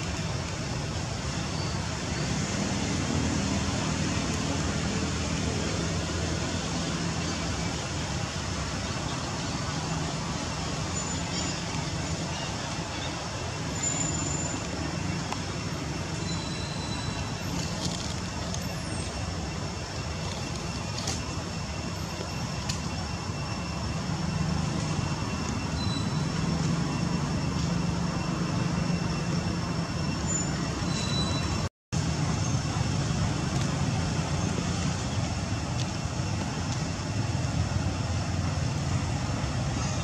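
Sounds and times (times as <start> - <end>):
constant hiss: 0.0 - 40.0.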